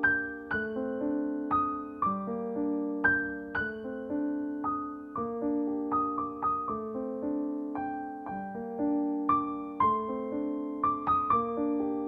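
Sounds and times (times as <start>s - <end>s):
piano single notes: 0.0s - 12.0s.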